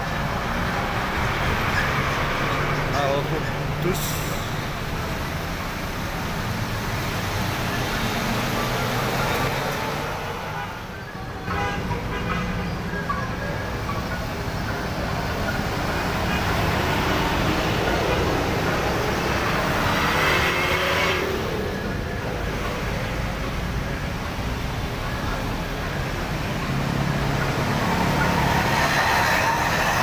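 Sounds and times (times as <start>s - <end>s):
bus and truck engines passing: 0.0s - 30.0s
road noise: 0.0s - 30.0s.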